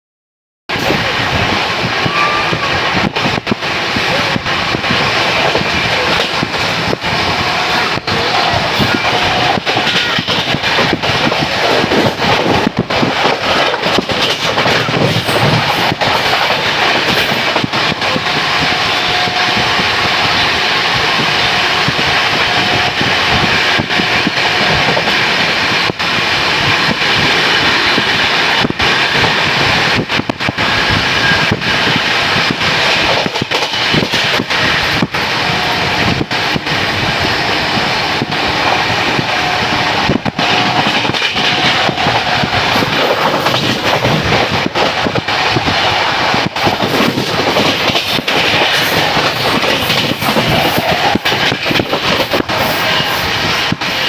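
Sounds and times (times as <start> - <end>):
train wheels clattering on rails: 0.7 - 54.0.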